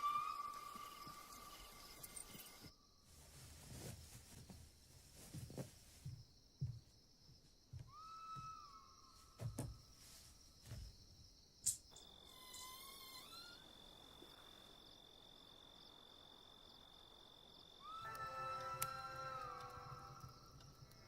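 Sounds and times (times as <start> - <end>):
cricket-like trill: 0.0 - 3.9, 7.8 - 21.0
insects chirping: 0.0 - 21.0.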